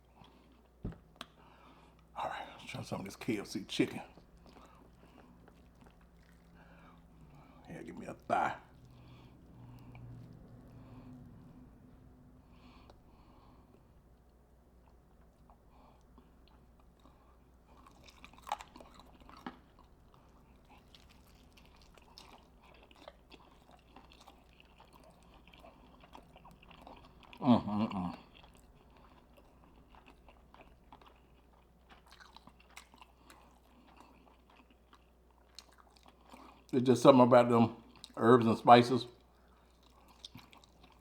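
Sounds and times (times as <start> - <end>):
chewing crispy chicken: 0.0 - 41.0.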